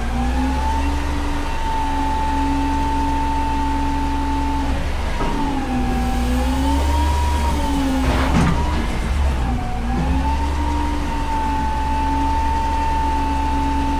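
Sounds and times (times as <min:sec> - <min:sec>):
garbage truck engine revving: 0:00.0 - 0:13.9.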